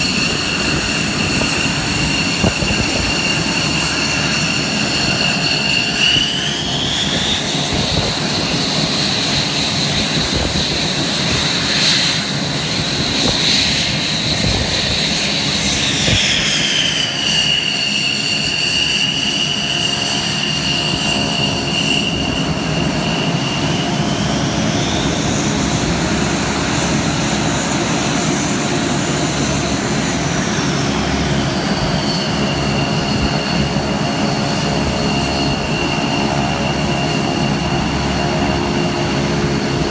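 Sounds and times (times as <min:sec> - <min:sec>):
aircraft turbine engine whine: 0:00.0 - 0:39.9.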